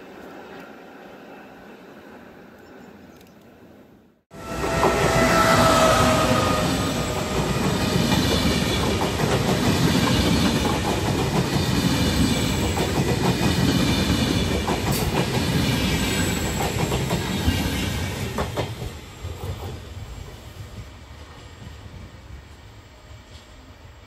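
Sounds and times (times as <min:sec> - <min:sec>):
train wheels rumbling on rail: 0:04.3 - 0:23.8.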